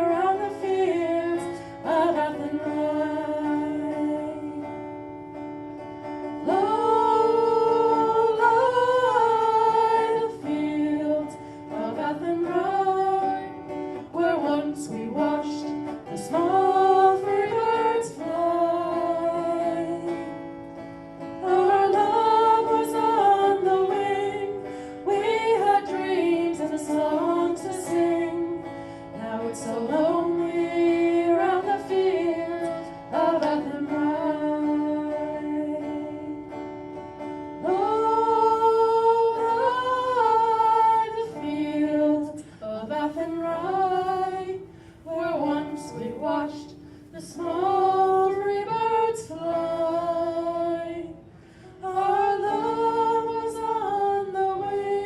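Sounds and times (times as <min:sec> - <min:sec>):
folk melody: 0:00.0 - 0:55.0
plucked guitar: 0:00.0 - 0:55.0.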